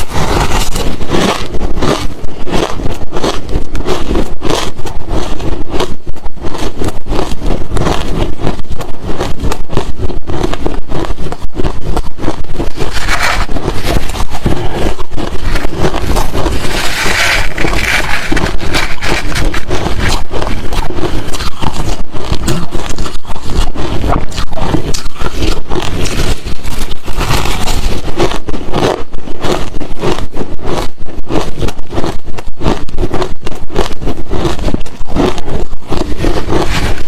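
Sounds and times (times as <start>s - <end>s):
ice being chewed: 0.0s - 37.0s.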